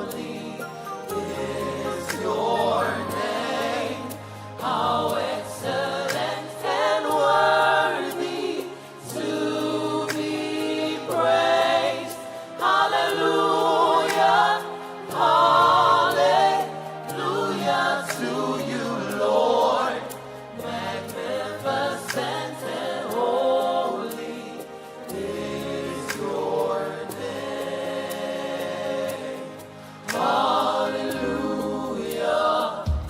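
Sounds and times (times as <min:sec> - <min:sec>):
gospel choir singing: 0:00.0 - 0:33.0.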